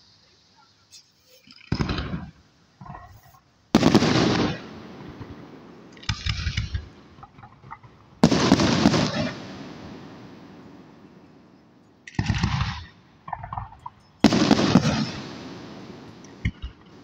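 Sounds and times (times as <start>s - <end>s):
fireworks shells bursting: 0.9s - 17.0s.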